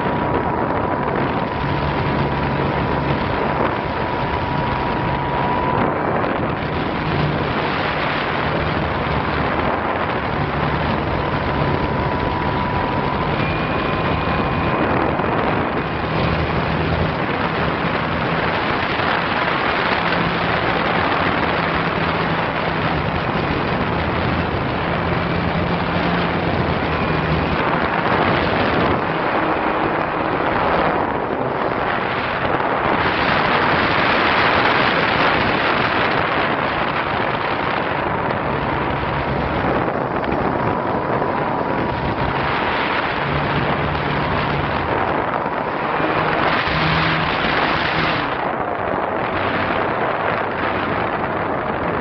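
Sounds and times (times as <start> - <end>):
model plane engine tone: 0.0 - 48.4
wind rushing over microphone: 0.0 - 52.0.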